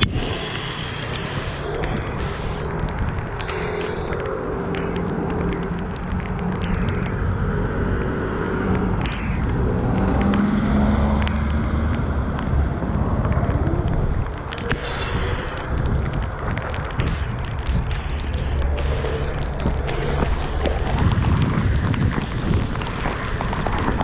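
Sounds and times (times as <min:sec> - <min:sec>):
low hum: 0:00.0 - 0:24.0
sharp ticks: 0:00.0 - 0:24.0
wind and wet tyres hissing: 0:00.0 - 0:24.0.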